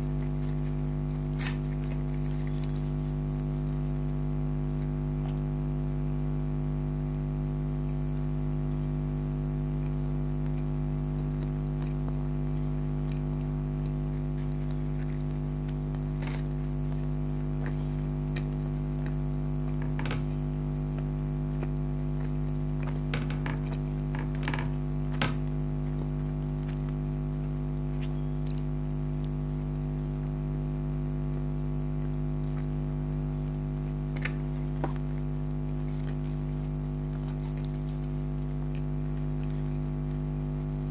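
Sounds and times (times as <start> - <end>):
person eating clicks and smacks: 0.0 - 40.9
steady electrical hum: 0.0 - 40.9.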